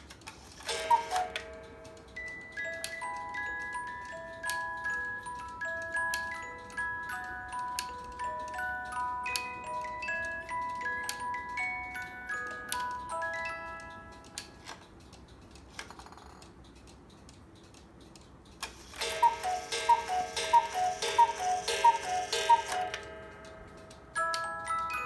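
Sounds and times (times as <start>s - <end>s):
clock ticking: 0.0s - 25.0s
music-box notes: 0.3s - 15.6s, 18.6s - 25.0s
cuckoo clock calling: 0.4s - 15.0s, 18.6s - 25.0s.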